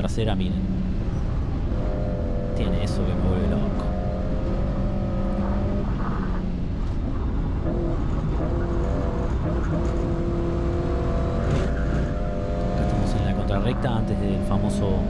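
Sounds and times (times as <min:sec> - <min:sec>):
car engine running under load: 0:00.0 - 0:15.0
road and wind noise: 0:00.0 - 0:15.0.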